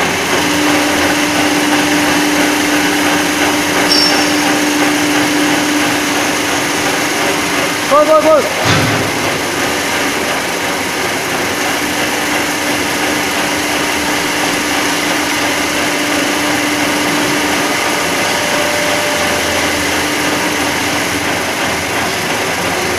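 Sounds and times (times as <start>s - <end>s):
mixer motor humming: 0.0s - 22.9s.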